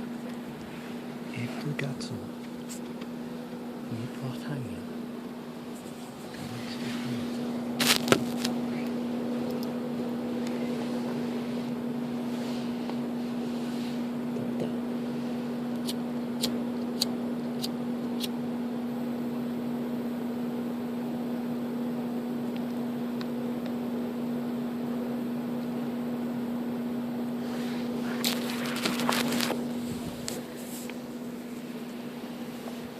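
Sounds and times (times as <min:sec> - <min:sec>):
steady mechanical hum: 0:00.0 - 0:32.9.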